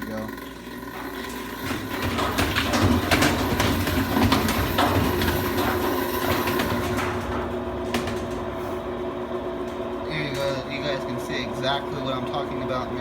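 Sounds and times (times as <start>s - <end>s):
washer drum knocking: 0.0s - 13.0s
washing machine spin rumble: 0.0s - 13.0s.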